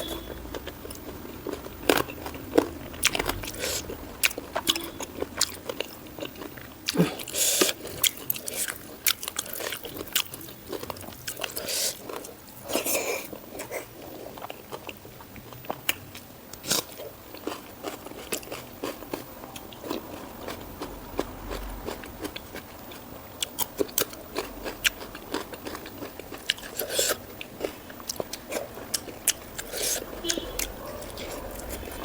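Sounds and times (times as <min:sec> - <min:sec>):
chewing and crunching food: 0:00.0 - 0:32.0.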